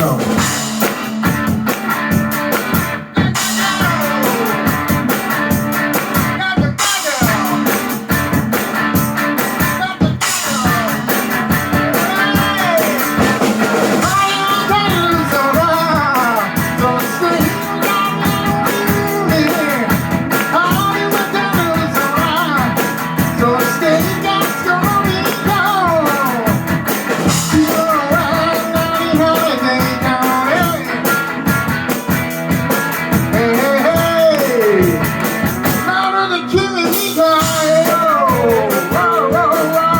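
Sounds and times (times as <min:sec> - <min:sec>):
electric guitar bending notes: 0:00.0 - 0:39.9
rock band playing: 0:00.0 - 0:39.9
steady drum beat: 0:00.0 - 0:39.9.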